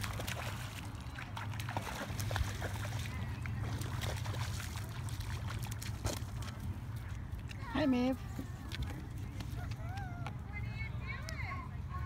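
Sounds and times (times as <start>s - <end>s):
feet splashing in shallow water: 0.0s - 10.2s.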